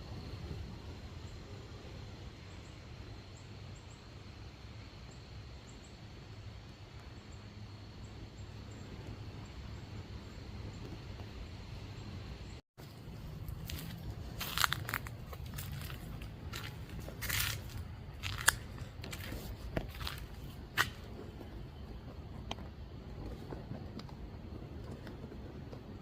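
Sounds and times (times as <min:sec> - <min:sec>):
faint high whine: 0:00.0 - 0:26.0
wind rumbling on microphone: 0:00.0 - 0:26.0.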